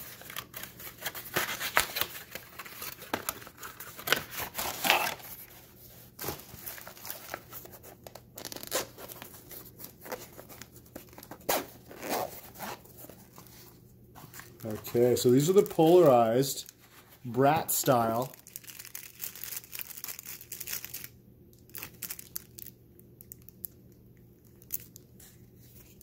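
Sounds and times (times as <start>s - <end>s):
cardboard box and packaging rustling: 0.0s - 21.0s.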